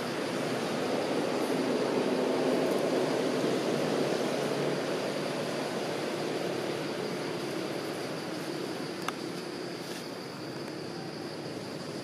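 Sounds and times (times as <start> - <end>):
faint steady hum tones: 0.0 - 12.0.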